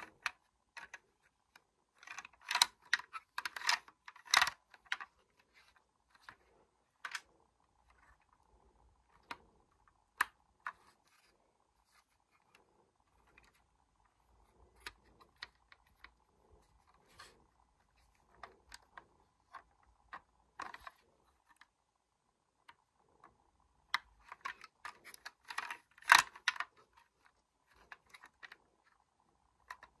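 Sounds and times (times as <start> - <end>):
plastic bricks clicking and rattling: 0.0 - 11.3, 11.9 - 21.8, 22.6 - 30.0.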